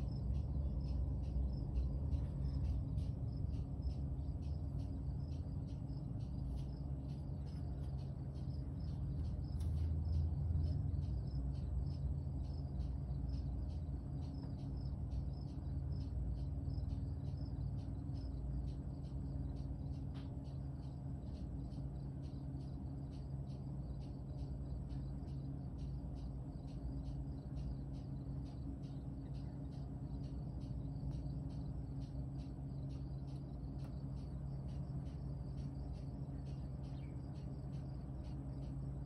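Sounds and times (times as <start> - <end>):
cricket chirping: 0.0 - 39.0
steady low rumble: 0.0 - 39.0.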